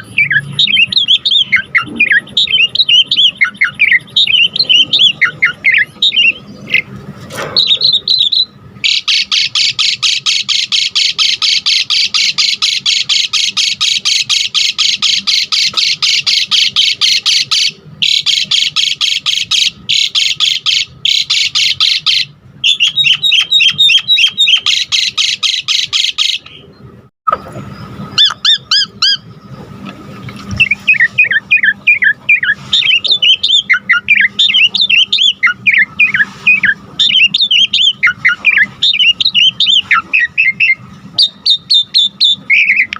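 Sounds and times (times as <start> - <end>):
starling singing harsh chattering: 0.0 - 26.7, 28.1 - 29.4, 30.5 - 42.9.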